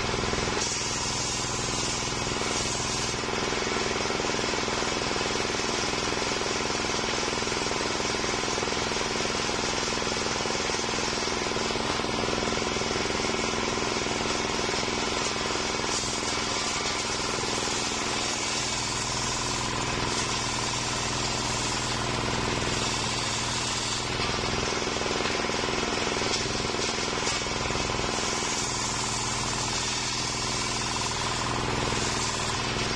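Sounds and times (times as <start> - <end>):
circular saw running: 0.0 - 32.9
saw cutting into log: 0.0 - 32.9.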